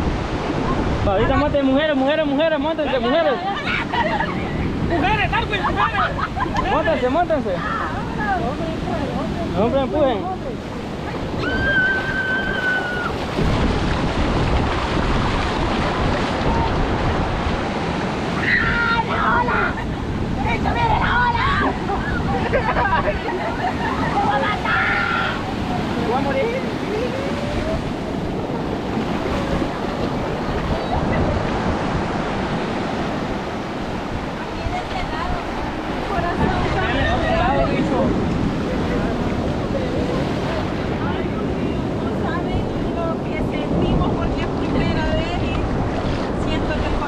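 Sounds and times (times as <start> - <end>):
surf breaking in shallows: 0.0 - 47.0
wind buffeting microphone: 0.0 - 47.0.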